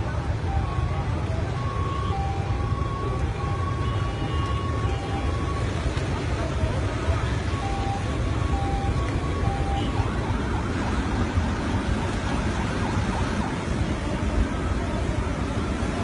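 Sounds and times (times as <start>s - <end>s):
rushing floodwater: 0.0s - 16.0s.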